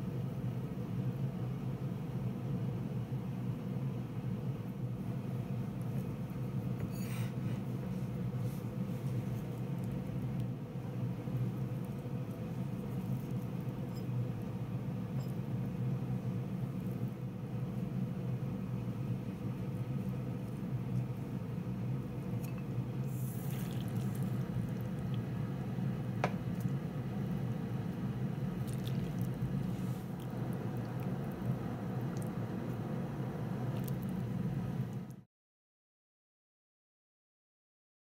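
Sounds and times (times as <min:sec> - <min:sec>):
steady low hum: 0:00.0 - 0:35.2.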